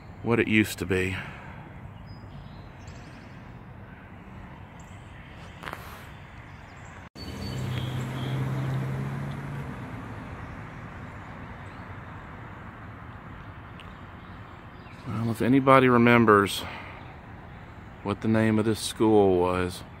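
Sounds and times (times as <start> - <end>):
vehicle engine hum: 0.0 - 19.8
outdoor background noise: 0.0 - 20.0.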